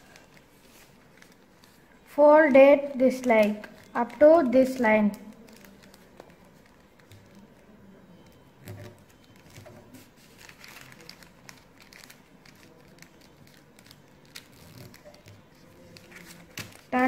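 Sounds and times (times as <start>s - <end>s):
paper rustling and crinkling: 0.0s - 2.0s, 3.2s - 17.0s.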